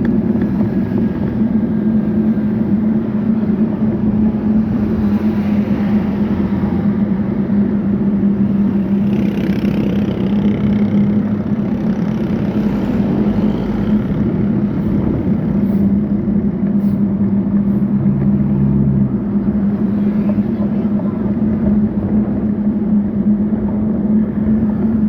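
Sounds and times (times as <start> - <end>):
road noise: 0.0 - 25.0
vehicle engine running: 0.0 - 25.0.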